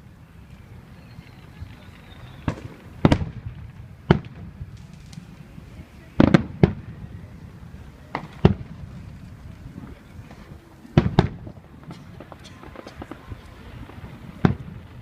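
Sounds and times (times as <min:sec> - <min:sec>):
fireworks booming: 0:01.4 - 0:15.0.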